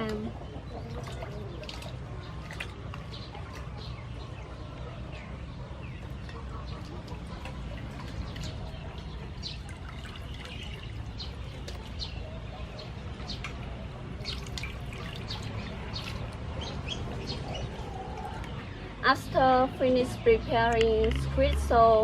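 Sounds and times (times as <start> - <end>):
water sloshing and dripping: 0.0 - 19.0.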